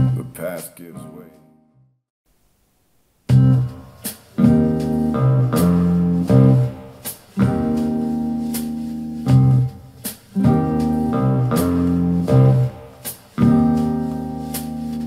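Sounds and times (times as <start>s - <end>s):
guitar and keyboard chords: 0.0s - 1.8s, 3.3s - 15.0s.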